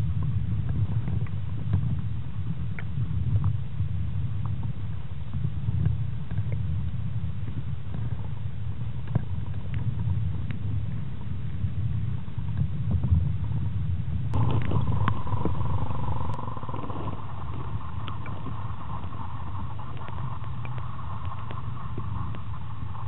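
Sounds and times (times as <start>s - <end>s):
steady whine: 0.0s - 23.0s
underwater rumble of moving water: 0.0s - 23.0s.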